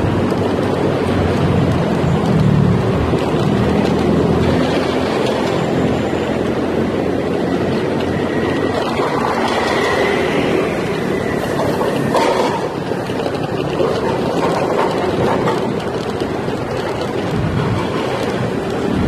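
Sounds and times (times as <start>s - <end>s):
scooter road noise: 0.0s - 19.0s.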